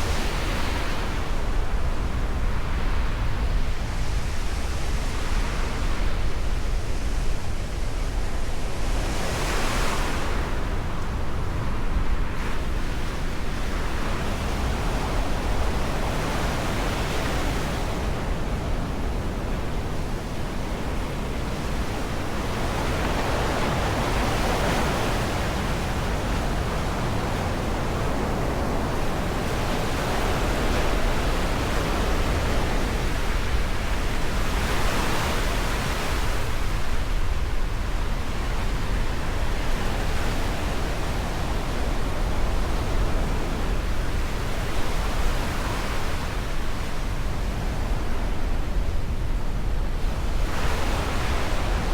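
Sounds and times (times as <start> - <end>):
surf washing in: 0.0 - 51.9
wind rumbling on microphone: 0.0 - 51.9.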